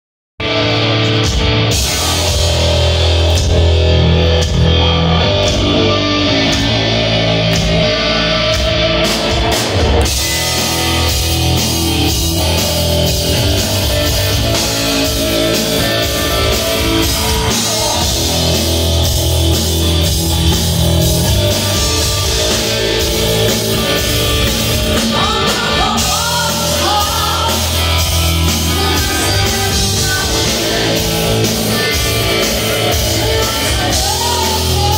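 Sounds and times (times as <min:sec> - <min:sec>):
bent electric guitar notes: 0:00.4 - 0:34.9
hard rock band playing live: 0:00.4 - 0:34.9.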